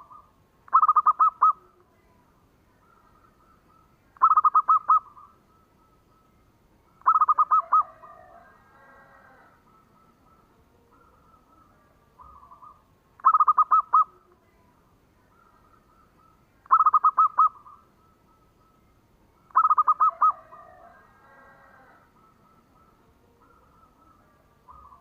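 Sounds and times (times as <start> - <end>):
dove cooing: 0.0 - 2.0, 2.8 - 6.3, 7.0 - 14.6, 15.3 - 18.8, 19.4 - 25.0
faint bird calls: 0.0 - 25.0.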